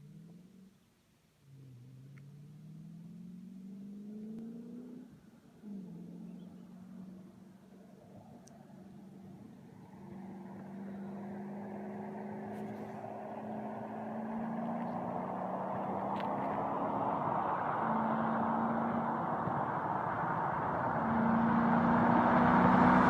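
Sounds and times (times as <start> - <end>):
car engine running: 1.6 - 23.0.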